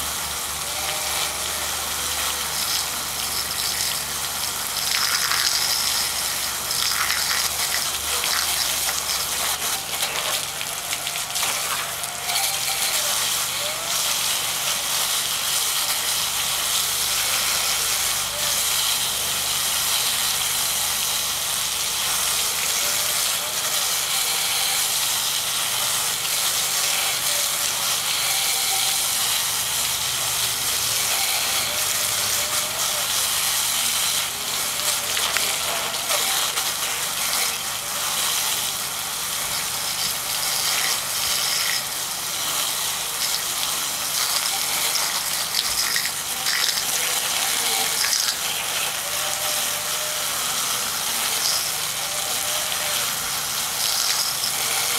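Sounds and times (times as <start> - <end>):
water jets spraying on fan: 0.0 - 54.9.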